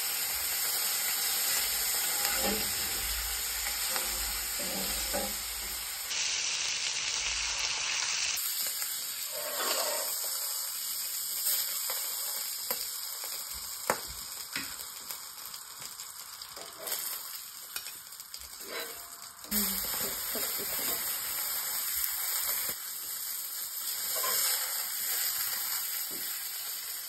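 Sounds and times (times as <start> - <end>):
steak sizzling in frying pan: 0.0 - 27.0.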